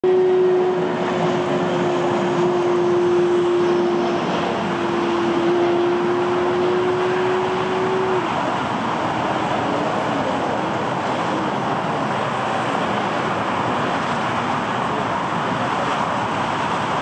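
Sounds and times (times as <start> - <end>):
jet engines rushing with whine: 0.0 - 17.0.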